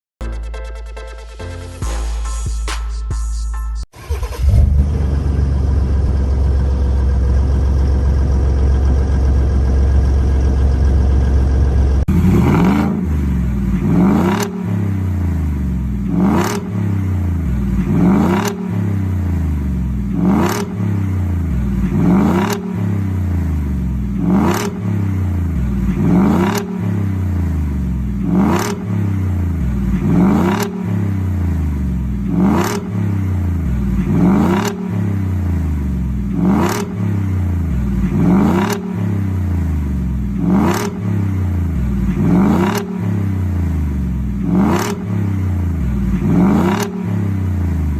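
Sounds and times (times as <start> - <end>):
pickup engine idling and revving: 4.0 - 47.9.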